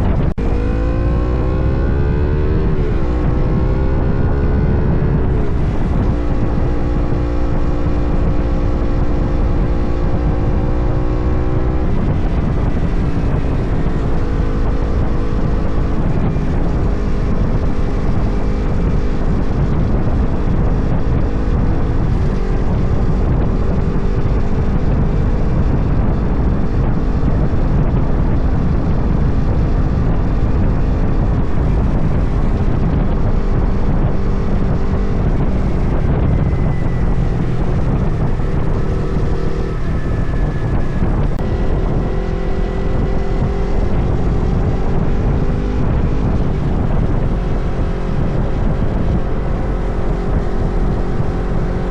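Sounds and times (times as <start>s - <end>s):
motorcycle engine cruising: 0.0s - 51.9s
wind rumble on microphone: 0.0s - 51.9s.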